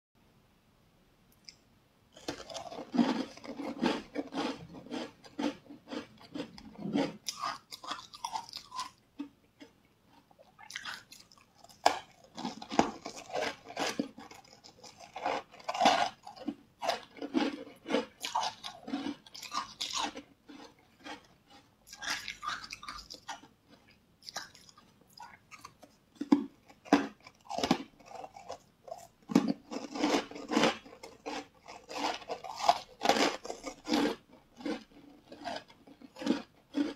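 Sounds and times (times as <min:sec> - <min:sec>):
chewing and crunching: 0:01.4 - 0:36.9.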